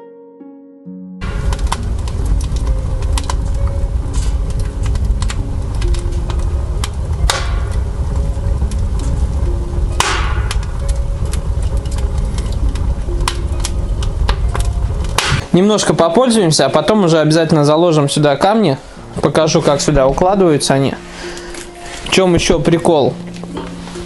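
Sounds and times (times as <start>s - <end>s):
low fire rumble: 1.2s - 24.0s
wood fire crackling and popping: 1.2s - 24.0s.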